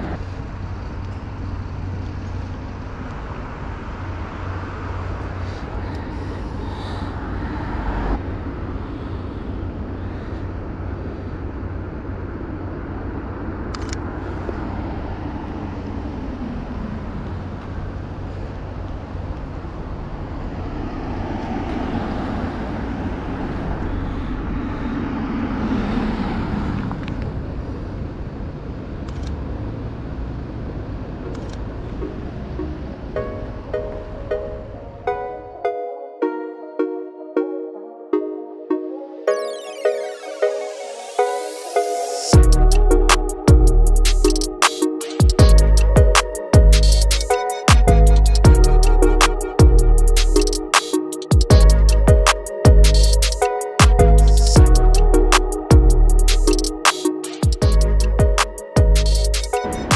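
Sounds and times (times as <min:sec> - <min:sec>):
traffic rumble: 0:00.0 - 0:35.8, 0:42.3 - 0:59.9.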